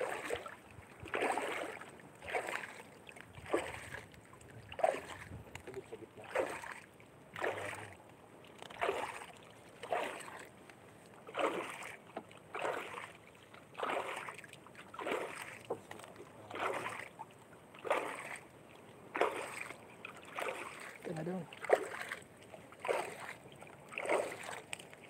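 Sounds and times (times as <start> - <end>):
paddle strokes splashing water: 0.0 - 25.0.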